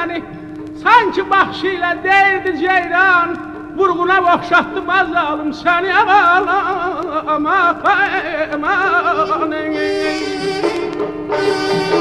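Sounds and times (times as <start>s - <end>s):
man singing ornamented melody: 0.0s - 12.0s
strummed lute: 0.0s - 12.0s.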